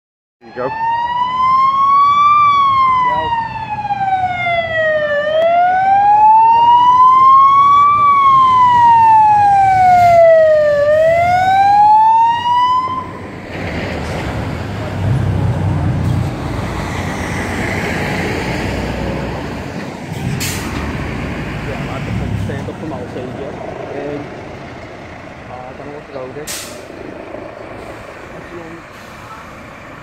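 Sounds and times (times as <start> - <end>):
fire engine siren wailing: 0.4 - 30.0
heavy truck engines rumbling: 0.4 - 30.0.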